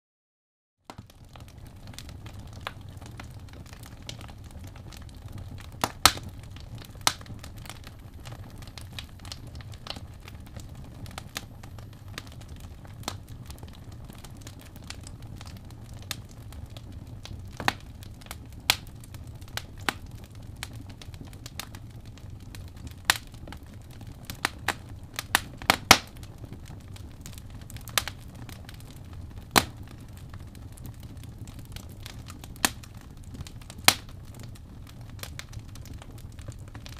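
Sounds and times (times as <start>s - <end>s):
wood fire crackling: 0.9s - 36.9s.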